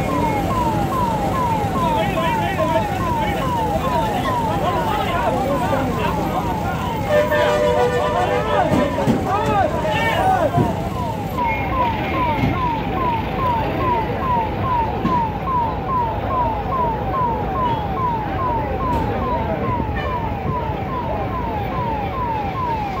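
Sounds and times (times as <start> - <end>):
fire engine siren yelping: 0.0 - 23.0.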